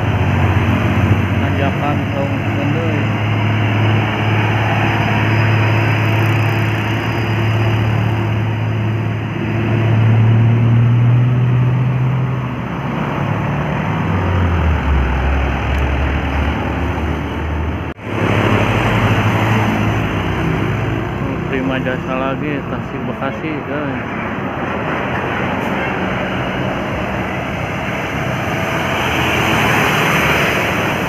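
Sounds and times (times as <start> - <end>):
diesel truck engine labouring: 0.0 - 31.0.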